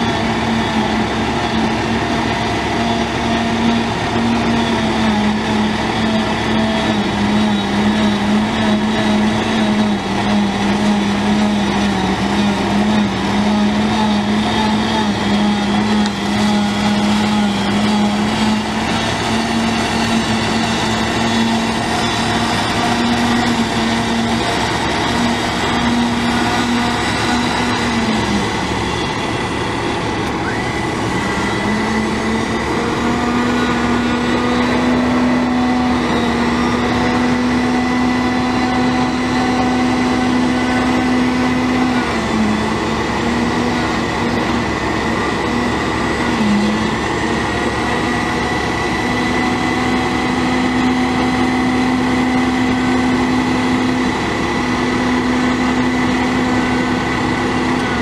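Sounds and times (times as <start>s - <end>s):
high thin whine: 0.0s - 58.0s
truck diesel engine running: 0.0s - 58.0s.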